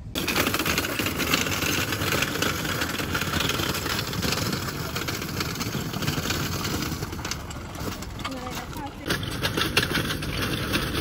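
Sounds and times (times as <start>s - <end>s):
hand trolley wheels rattling on asphalt: 0.1s - 11.0s.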